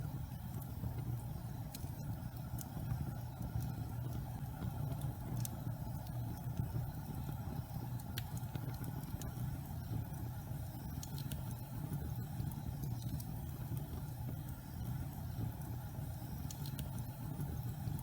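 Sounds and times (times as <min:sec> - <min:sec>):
fire crackles and pops: 0:00.0 - 0:18.0
fire flames rumbling: 0:00.0 - 0:18.0.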